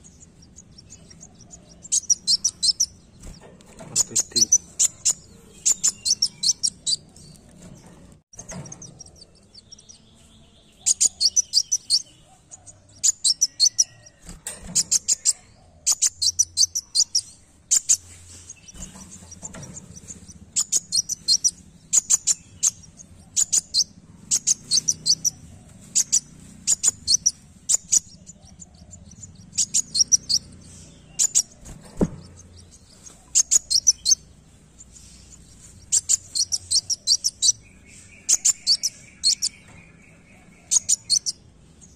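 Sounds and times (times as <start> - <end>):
sunbird chirping: 0.0 - 7.7, 8.4 - 14.2, 14.8 - 41.9.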